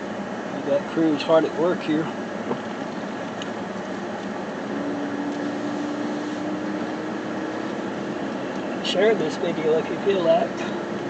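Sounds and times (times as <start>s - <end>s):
air conditioning fan blowing: 0.0s - 11.0s
vehicle interior road noise: 0.0s - 11.0s.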